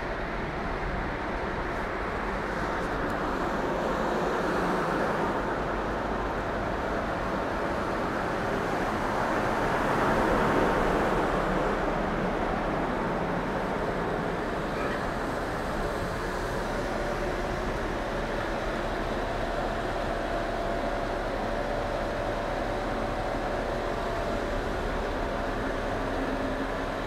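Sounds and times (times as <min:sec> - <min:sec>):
steady rumbling noise: 0:00.0 - 0:27.0.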